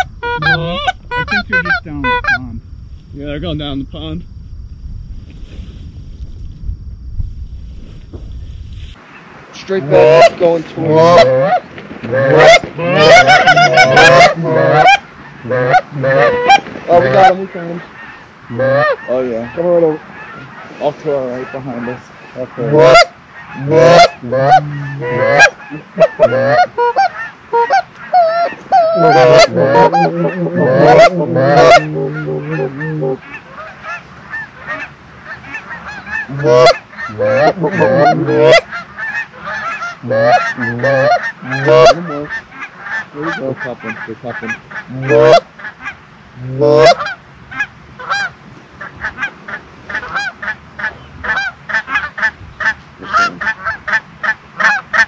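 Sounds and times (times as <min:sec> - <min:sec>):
geese honking: 0:00.0 - 0:02.4, 0:09.6 - 0:55.0.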